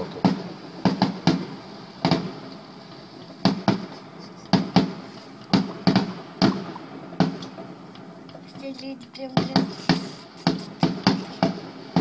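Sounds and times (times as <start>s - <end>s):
distant fireworks bangs: 0.0s - 8.7s, 9.3s - 12.0s.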